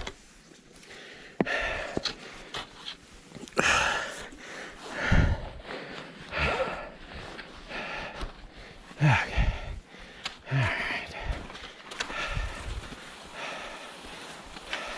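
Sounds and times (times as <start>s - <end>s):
man breathing hard: 0.8s - 2.5s, 3.4s - 14.9s.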